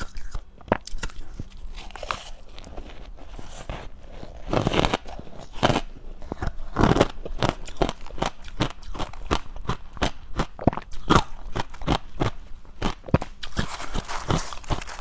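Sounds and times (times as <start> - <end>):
chewing crunchy ice: 0.0 - 15.0.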